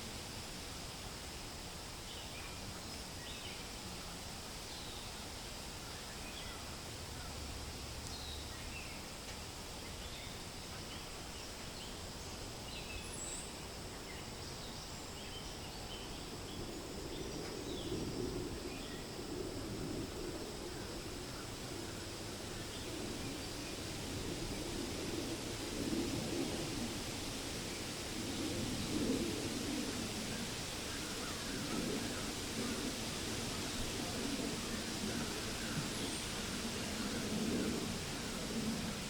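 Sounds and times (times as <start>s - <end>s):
rush of wind: 0.0s - 39.0s
wind through leaves: 0.0s - 39.0s.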